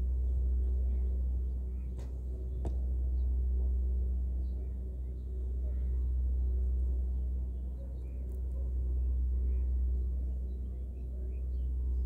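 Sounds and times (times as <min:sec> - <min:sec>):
distant birds chirping: 0:00.0 - 0:12.0
faint hum: 0:00.0 - 0:12.0
low rumble: 0:00.0 - 0:12.0.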